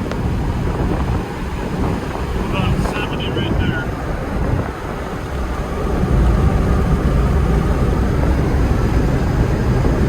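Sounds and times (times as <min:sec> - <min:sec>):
engine and road rumble in cabin: 0:00.0 - 0:10.0.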